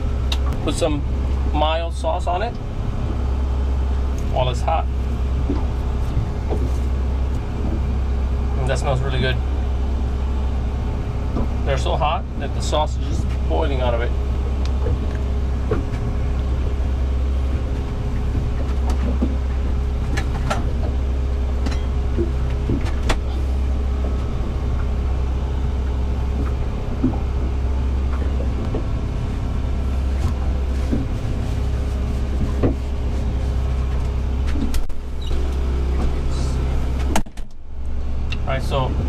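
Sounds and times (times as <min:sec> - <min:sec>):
generator droning: 0:00.0 - 0:39.0.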